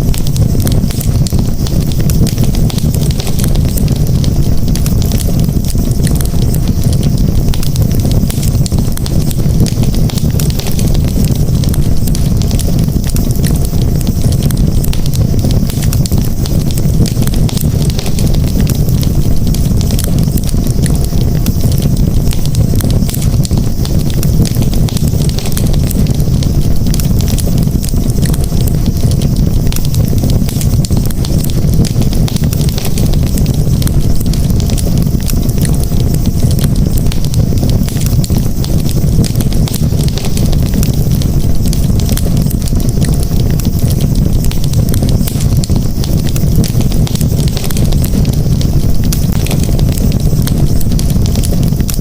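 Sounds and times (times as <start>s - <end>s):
campfire crackling and popping: 0.0s - 52.0s
low fire rumble: 0.0s - 52.0s.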